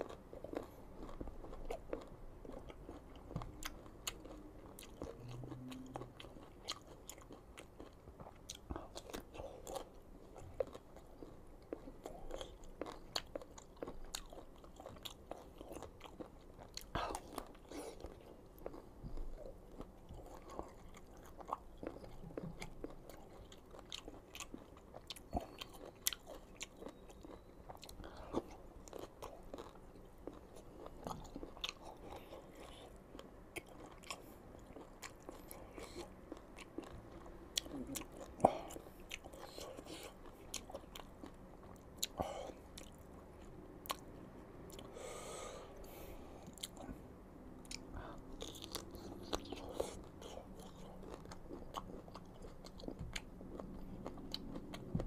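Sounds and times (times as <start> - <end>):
crunchy chewing of mango: 0.0 - 55.0.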